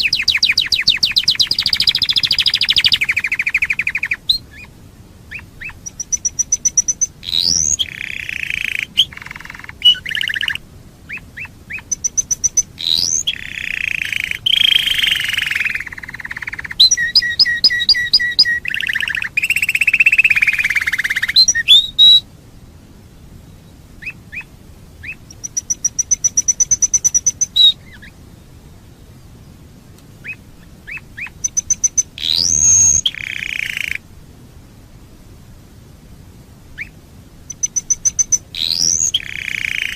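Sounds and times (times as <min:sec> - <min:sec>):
canary singing trills: 0:00.0 - 0:22.2, 0:24.0 - 0:28.2, 0:30.2 - 0:34.0, 0:36.8 - 0:39.9.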